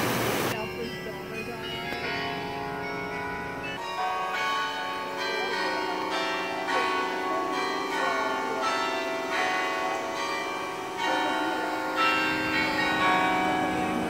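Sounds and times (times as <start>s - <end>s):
church bells ringing: 0.5s - 14.0s.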